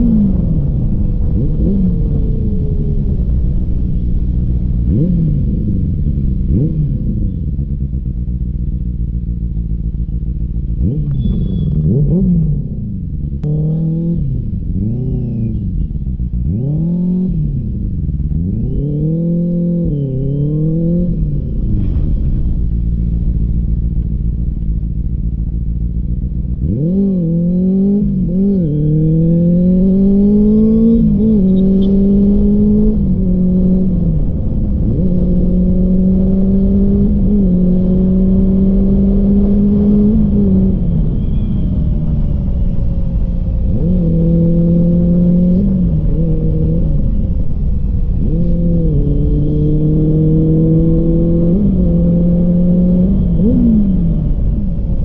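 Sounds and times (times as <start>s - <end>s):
motorcycle engine accelerating: 0.0s - 55.0s
wind rumble on microphone: 0.0s - 55.0s.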